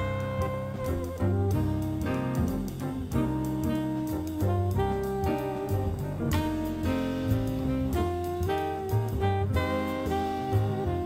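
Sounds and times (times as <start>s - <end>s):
jazz horn melody: 0.0s - 11.0s.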